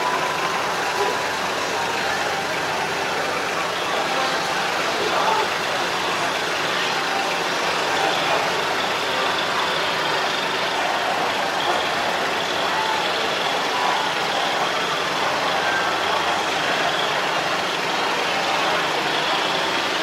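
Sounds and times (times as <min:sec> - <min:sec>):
engine-like mechanical hum: 0:00.0 - 0:20.0
faint voices: 0:00.0 - 0:20.0.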